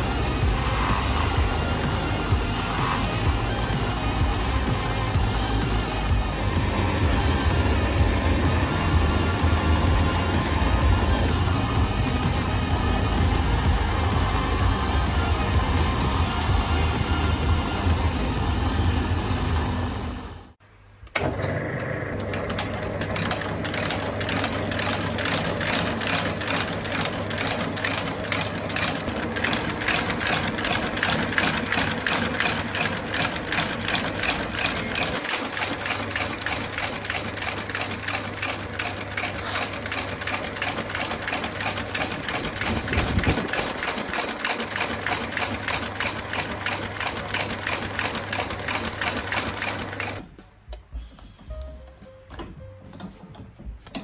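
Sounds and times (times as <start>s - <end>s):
stitching machine motor hum: 0.0s - 50.3s.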